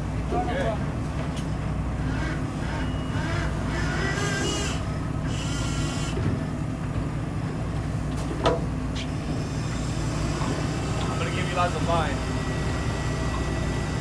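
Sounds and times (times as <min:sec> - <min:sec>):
boat engine droning: 0:00.0 - 0:08.2, 0:08.8 - 0:14.0.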